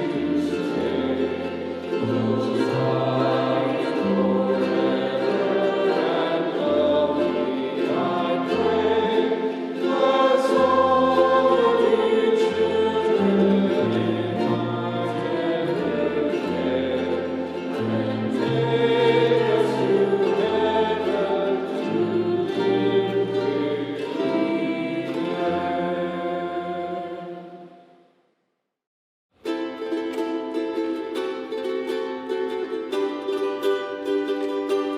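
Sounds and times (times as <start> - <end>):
choir singing: 0.0 - 28.0.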